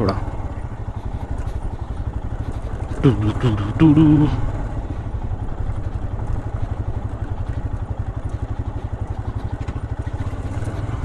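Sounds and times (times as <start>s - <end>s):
motorcycle engine rumbling at low revs: 0.0s - 11.0s.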